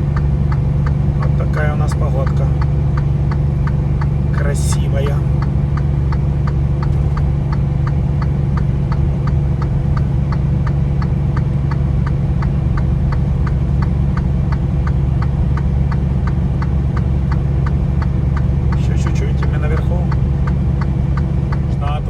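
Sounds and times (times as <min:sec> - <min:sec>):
faint regular ticking: 0:00.0 - 0:22.0
truck engine running: 0:00.0 - 0:22.0.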